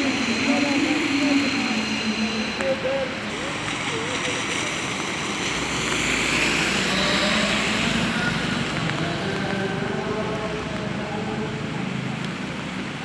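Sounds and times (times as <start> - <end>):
faint chanting voice: 0.0 - 5.1, 6.6 - 13.0
rain hissing on wet street: 0.0 - 13.0
vehicle passing on wet road: 0.0 - 13.0.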